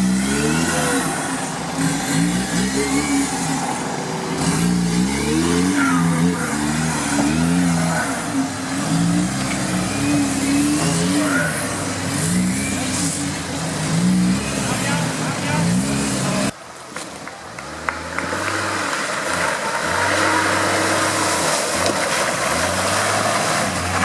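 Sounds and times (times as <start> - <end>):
off-road engine revving hard: 0.0 - 16.6, 17.6 - 24.0.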